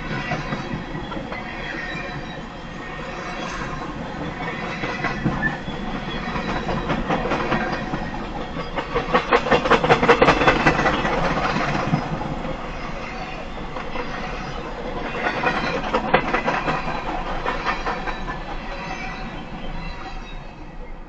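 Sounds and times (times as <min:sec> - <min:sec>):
freight train cars rolling past: 0:00.0 - 0:21.0.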